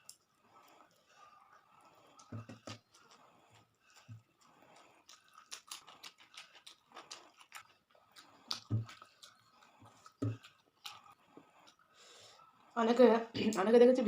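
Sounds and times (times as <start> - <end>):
chewing and mouth smacks: 0.0 - 11.9.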